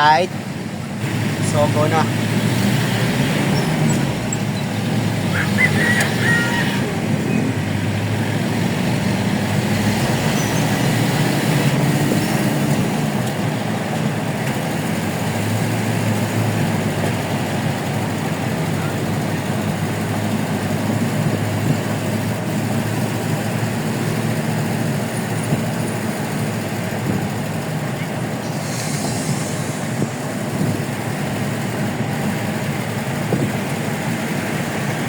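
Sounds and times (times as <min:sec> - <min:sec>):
vehicle engine and road noise: 0:00.0 - 0:35.0.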